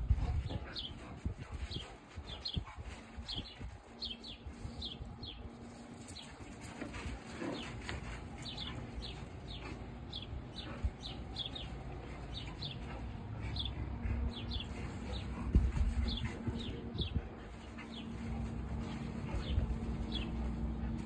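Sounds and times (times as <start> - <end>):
puppies wrestling on gravel: 0.1 - 21.0
small birds chirping: 0.1 - 21.0.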